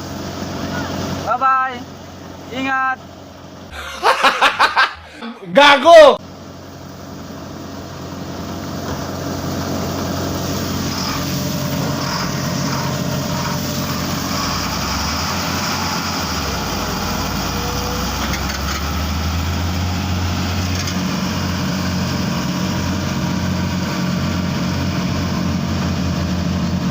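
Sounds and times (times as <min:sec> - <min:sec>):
excavator diesel engine droning: 0:00.0 - 0:26.9.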